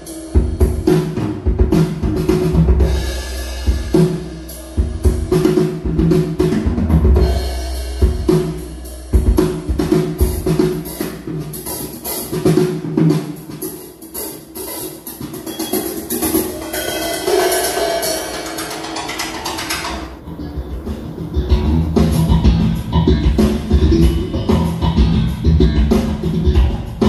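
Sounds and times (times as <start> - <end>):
drum kit over heavy bass: 0.0 - 27.0.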